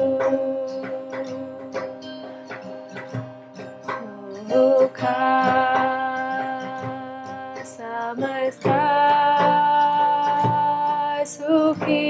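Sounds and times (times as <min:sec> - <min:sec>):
woman singing: 0:00.0 - 0:02.6, 0:03.9 - 0:12.0
plucked guitar: 0:00.0 - 0:12.0.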